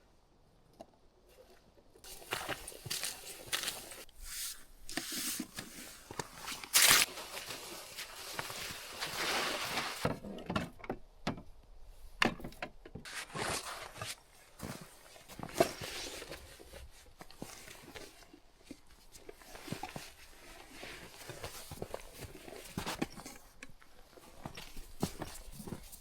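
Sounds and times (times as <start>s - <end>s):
soft rustling: 2.0s - 10.1s, 13.1s - 26.0s.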